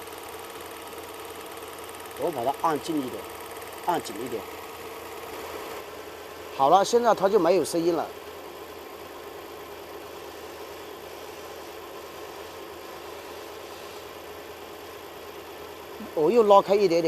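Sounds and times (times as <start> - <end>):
petrol engine idling: 0.0 - 17.0.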